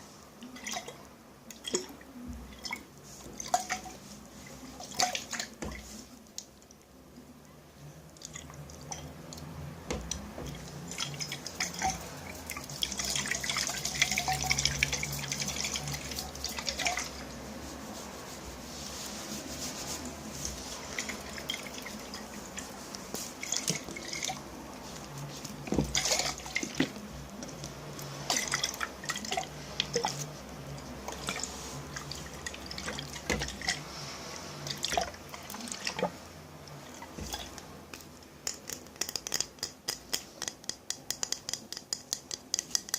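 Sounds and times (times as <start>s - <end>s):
water dripping and splashing: 0.2s - 7.2s, 8.0s - 18.1s, 19.9s - 41.6s.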